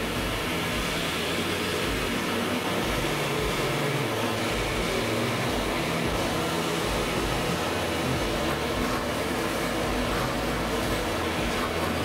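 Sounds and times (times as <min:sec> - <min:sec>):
shop vacuum running: 0:00.0 - 0:12.0.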